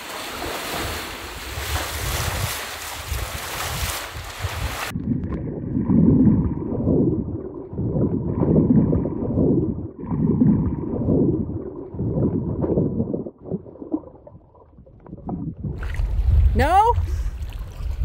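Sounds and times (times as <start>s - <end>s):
muffled underwater water rumble: 0.0s - 18.0s.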